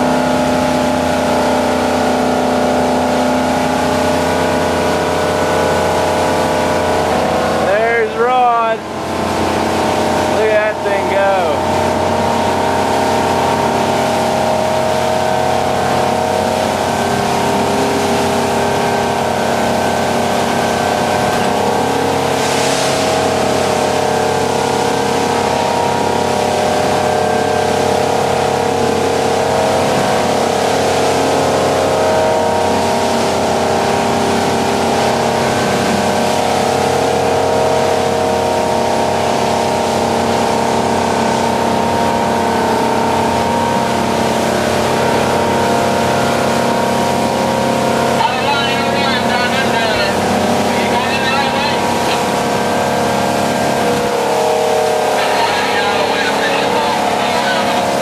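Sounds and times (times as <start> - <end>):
motorboat engines droning: 0.0 - 58.0
rushing water: 0.0 - 58.0.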